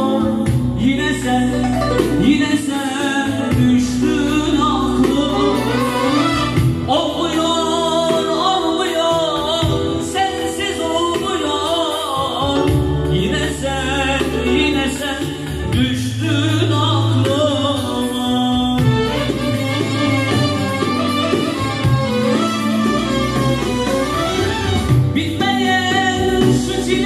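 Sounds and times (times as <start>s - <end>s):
electronic keyboard bass notes: 0.0s - 27.0s.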